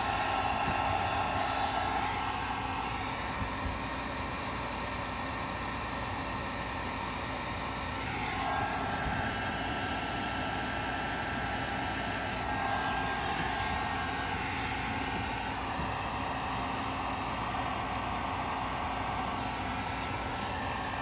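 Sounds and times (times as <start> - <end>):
heat gun blower whooshing: 0.0 - 4.4, 7.9 - 21.0.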